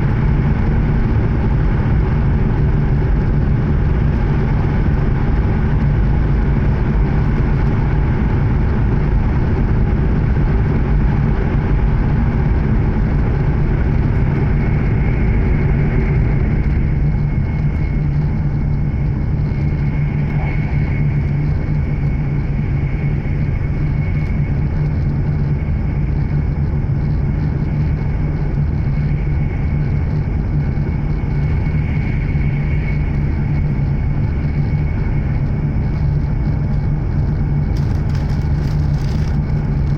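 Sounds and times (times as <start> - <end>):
faint high whine: 0.0 - 39.9
train cabin low rumble: 0.0 - 39.9.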